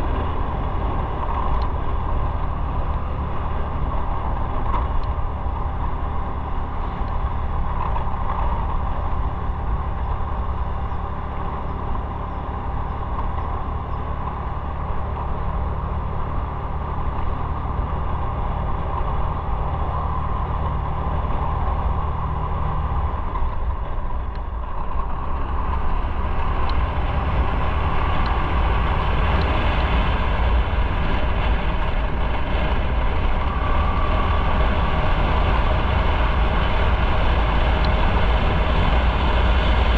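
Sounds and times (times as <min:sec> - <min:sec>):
motorcycle engine: 0:00.0 - 0:39.9
wind noise on microphone: 0:00.0 - 0:39.9.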